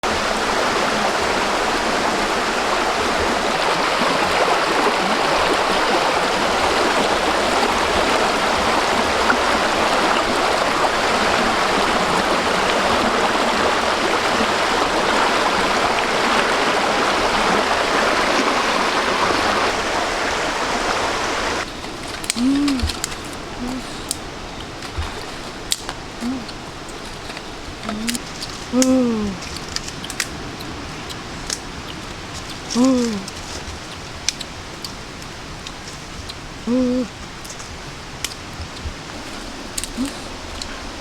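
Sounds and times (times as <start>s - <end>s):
flowing stream rushing: 0.0s - 41.0s.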